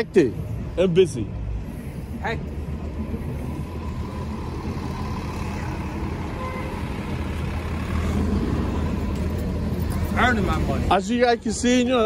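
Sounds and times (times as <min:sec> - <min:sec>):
bus engine rumble: 0:00.0 - 0:12.0
street traffic: 0:00.0 - 0:12.0.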